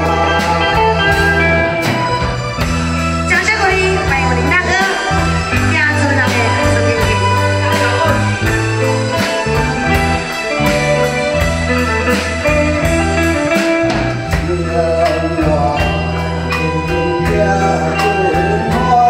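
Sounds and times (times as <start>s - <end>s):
bass guitar: 0.0s - 19.0s
drum kit beat: 0.0s - 19.0s
electric guitar: 0.0s - 19.0s.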